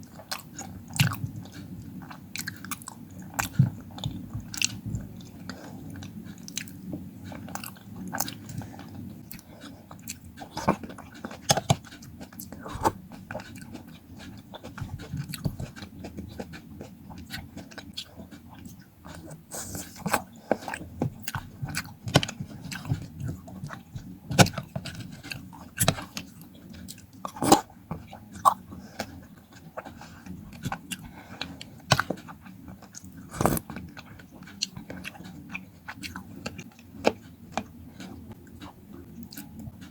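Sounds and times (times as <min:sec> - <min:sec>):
crunchy chewing of fruit: 0:00.0 - 0:39.9.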